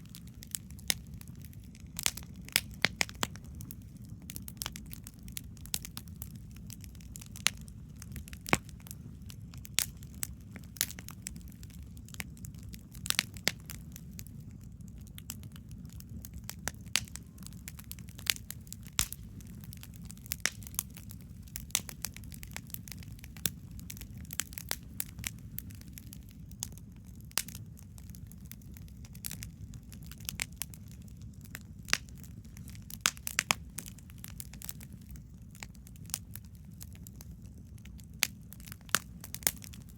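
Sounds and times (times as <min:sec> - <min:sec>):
campfire popping and crackling: 0:00.0 - 0:39.9
fire low rumble: 0:00.0 - 0:39.9.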